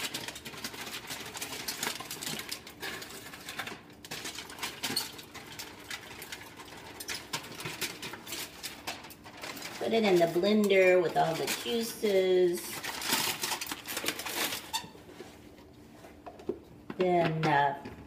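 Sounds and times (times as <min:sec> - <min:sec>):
foil crinkling and crackling: 0:00.0 - 0:16.2.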